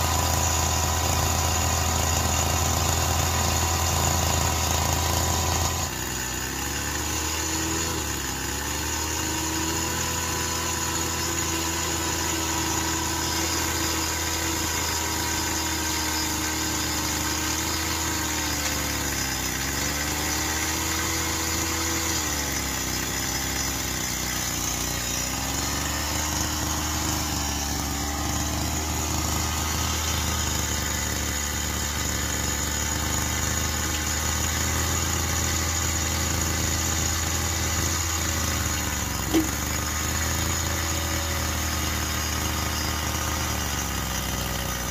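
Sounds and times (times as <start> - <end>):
model excavator motor whine: 0.0 - 8.6, 9.7 - 44.9.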